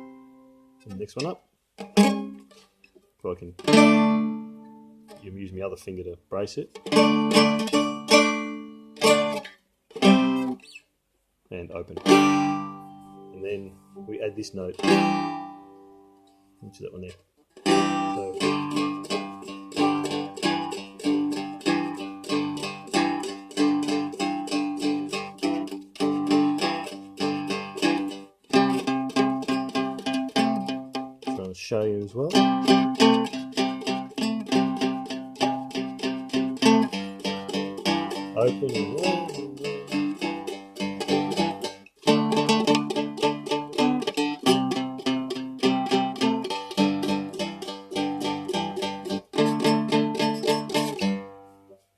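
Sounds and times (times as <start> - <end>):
dulcimer strumming blues riff: 0.0 - 10.8, 11.6 - 51.9.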